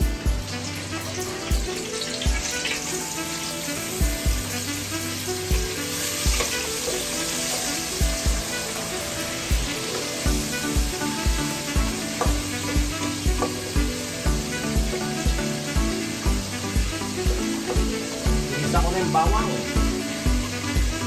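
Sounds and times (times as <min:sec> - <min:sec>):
background music with steady beat: 0:00.0 - 0:21.0
food sizzling in hot oil: 0:00.0 - 0:21.0.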